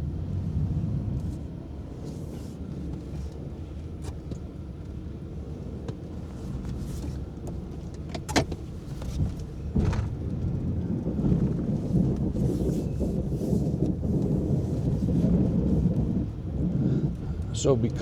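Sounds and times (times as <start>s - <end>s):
truck engine rumble: 0.0s - 18.0s.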